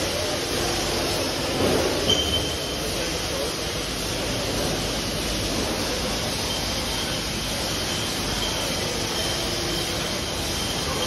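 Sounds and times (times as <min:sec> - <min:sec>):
bottling line machinery: 0:00.0 - 0:11.0.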